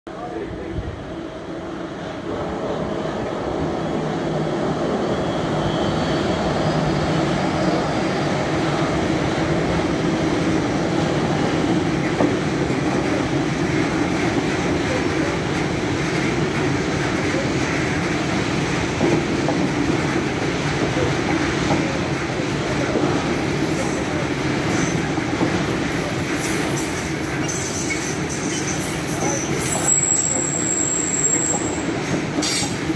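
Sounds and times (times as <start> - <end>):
train wheels running on rails: 1.5 - 32.9.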